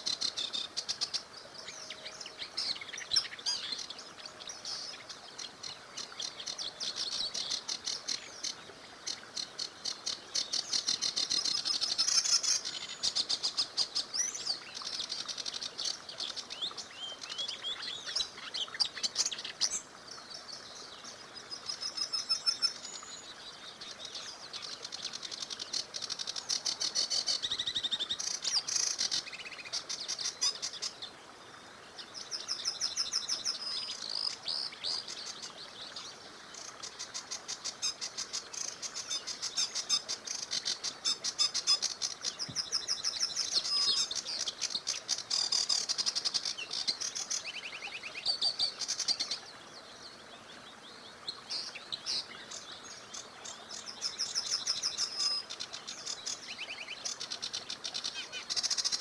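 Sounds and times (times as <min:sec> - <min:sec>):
faint river rushing: 0:00.0 - 0:59.0
songbirds chirping and trilling: 0:00.0 - 0:59.0.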